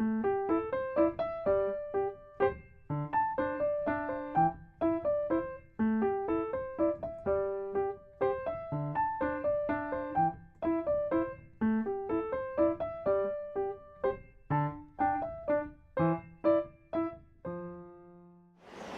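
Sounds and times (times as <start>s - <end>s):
solo piano melody: 0.0s - 18.9s.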